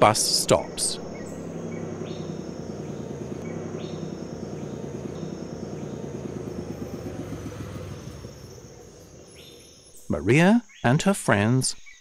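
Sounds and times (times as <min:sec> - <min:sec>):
bus engine humming: 0:00.0 - 0:10.0
crickets chirping: 0:00.0 - 0:10.9.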